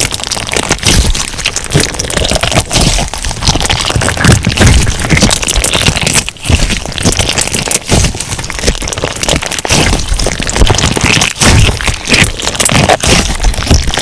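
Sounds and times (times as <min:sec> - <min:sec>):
crunchy slime being squeezed: 0:00.0 - 0:14.0.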